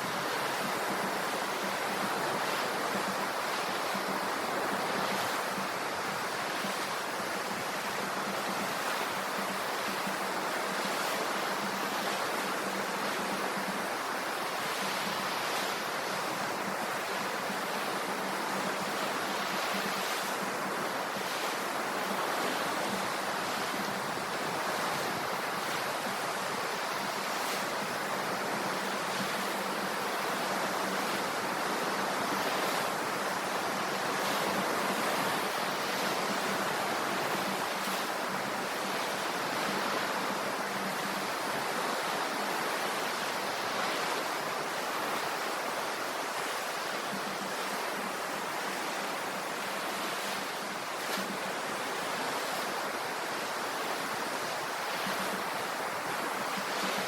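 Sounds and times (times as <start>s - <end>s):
ocean surf washing on shore: 0.0s - 57.0s.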